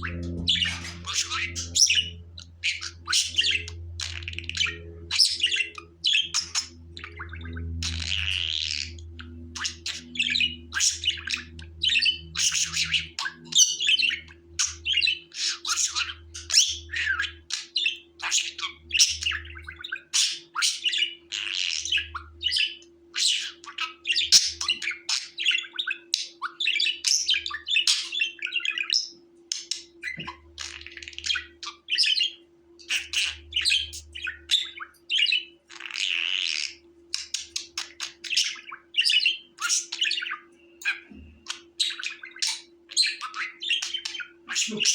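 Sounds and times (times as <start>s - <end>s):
budgerigar chirping and warbling: 0.0s - 44.9s
faint steady hum: 0.0s - 44.9s.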